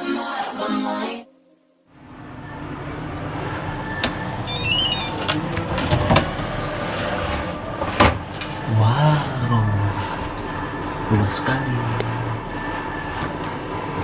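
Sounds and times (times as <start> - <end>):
train rumbling: 2.0 - 14.0.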